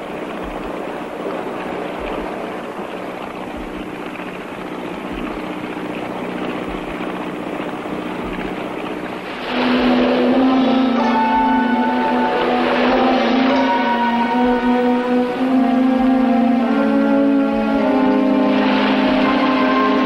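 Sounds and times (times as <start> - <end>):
boat engine droning: 0.0 - 20.0
water noise: 0.0 - 20.0.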